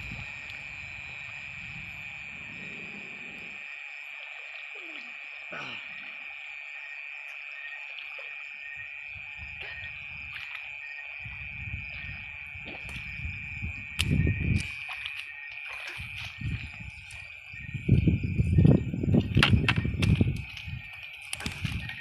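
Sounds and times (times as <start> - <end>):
water sloshing and rumbling: 0.0 - 5.3, 6.3 - 22.0
night insects trilling: 0.0 - 22.0.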